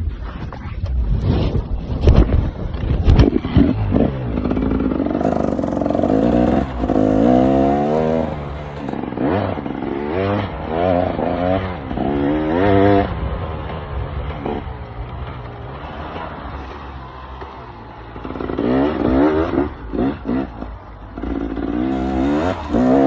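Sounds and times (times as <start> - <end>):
two-stroke motorcycle engine revving: 2.7 - 23.0.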